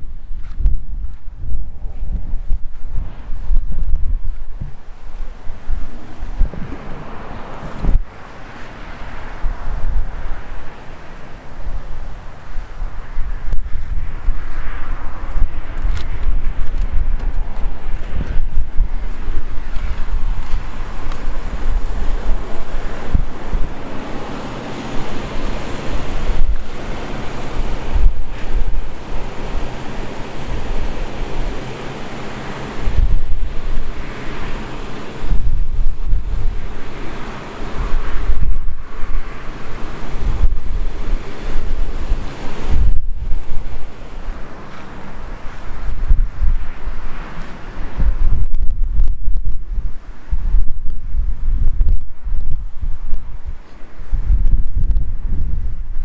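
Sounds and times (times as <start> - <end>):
gusty wind buffeting microphone: 0.0 - 56.0.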